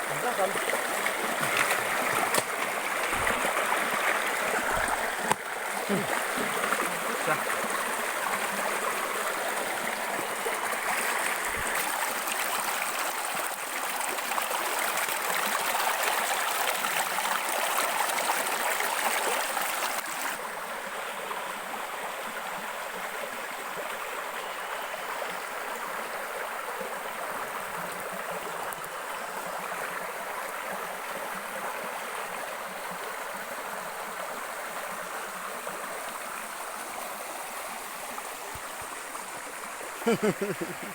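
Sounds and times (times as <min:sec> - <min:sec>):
stream water running over rocks: 0:00.0 - 0:40.9.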